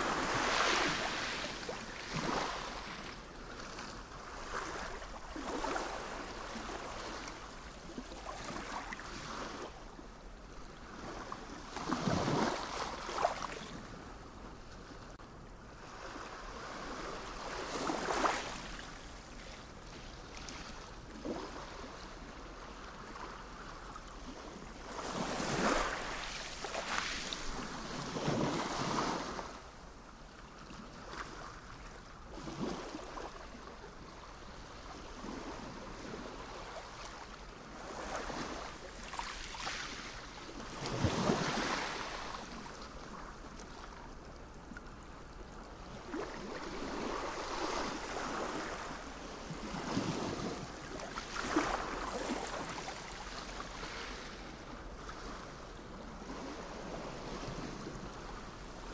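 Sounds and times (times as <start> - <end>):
sea waves breaking on shore: 0.0 - 30.1, 31.0 - 58.9.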